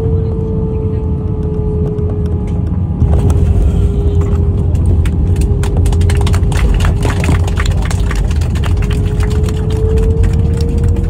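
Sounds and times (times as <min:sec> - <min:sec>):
airliner cabin rumble: 0:00.0 - 0:11.0
jet engine whine: 0:00.0 - 0:11.0.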